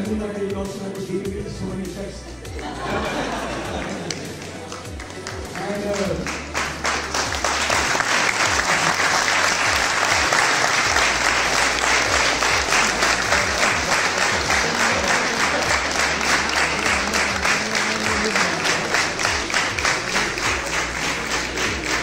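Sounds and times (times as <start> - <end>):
crowd applauding: 2.6 - 22.0.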